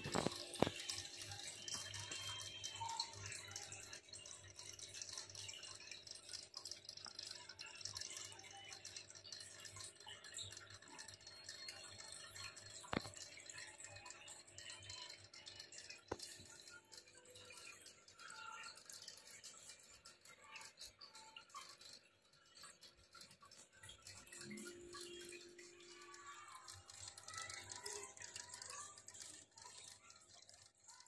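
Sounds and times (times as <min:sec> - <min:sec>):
water trickling from filter: 0:00.0 - 0:31.0.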